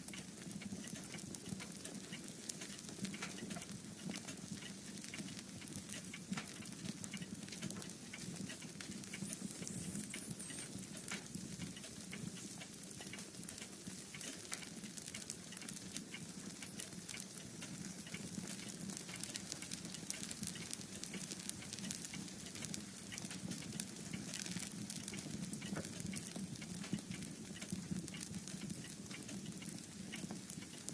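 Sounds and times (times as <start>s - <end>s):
wood fire crackling and popping: 0.0s - 30.9s
low rumble of flames: 0.1s - 30.9s.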